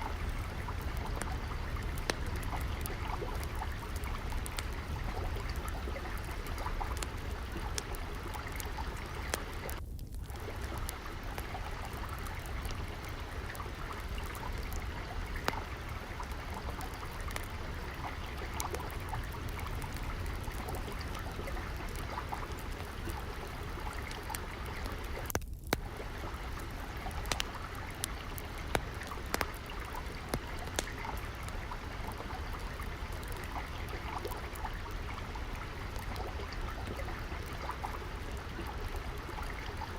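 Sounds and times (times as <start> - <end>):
water trickling: 0.0 - 39.9
wood fire crackling and popping: 0.0 - 39.9.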